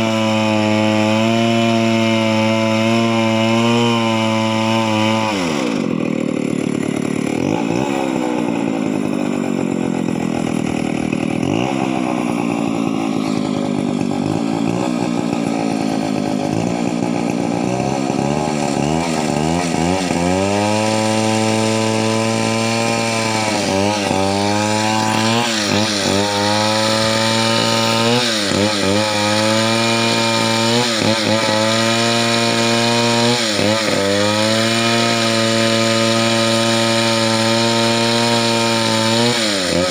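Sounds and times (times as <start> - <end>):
two-stroke chainsaw running: 0.0 - 39.9.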